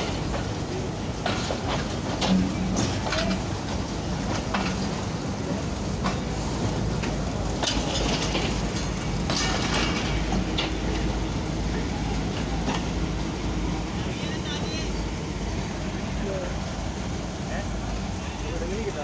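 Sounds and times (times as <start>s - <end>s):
train wheels rumbling on rails: 0.0s - 19.0s
wheels clicking over rail joints: 0.0s - 19.0s.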